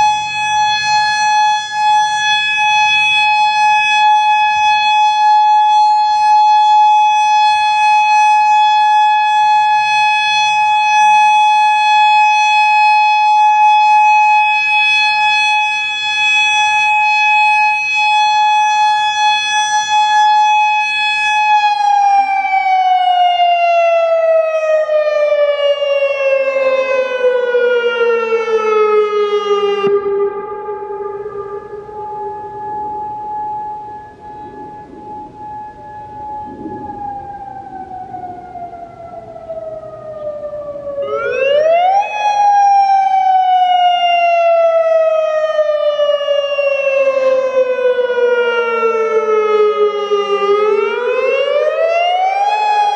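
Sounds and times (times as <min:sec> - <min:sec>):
outdoor warning siren steady tone: 0:00.0 - 0:52.9.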